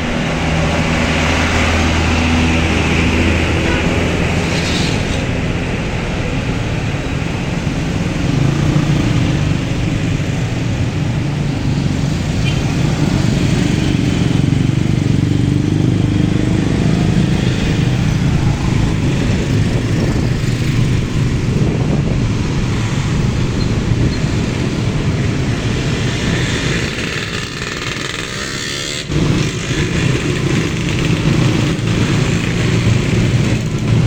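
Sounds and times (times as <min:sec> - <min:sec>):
motorcycles and traffic passing: 0:00.0 - 0:34.0.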